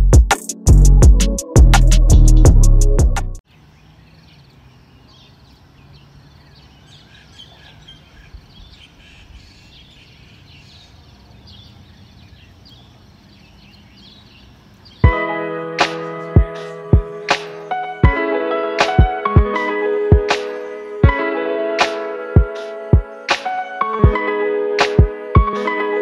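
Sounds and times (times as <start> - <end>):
birds chirping: 3.5 - 24.4.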